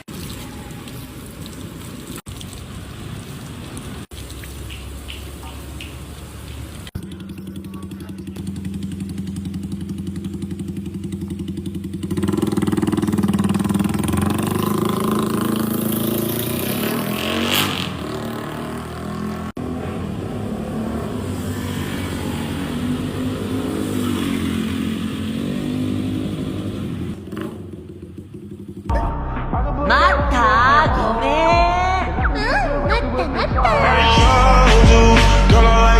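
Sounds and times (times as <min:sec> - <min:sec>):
motorcycle engine idling and revving: 0:04.6 - 0:35.9.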